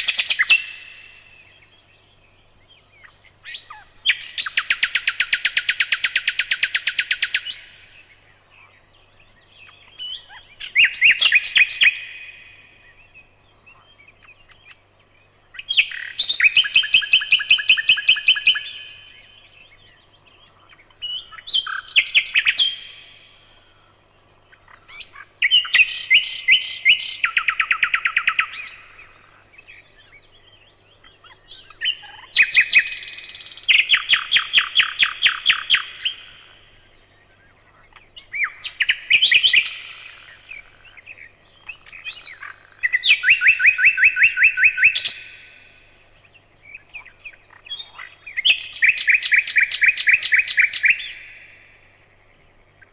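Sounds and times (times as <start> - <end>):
nightingale singing: 0.0 - 52.9.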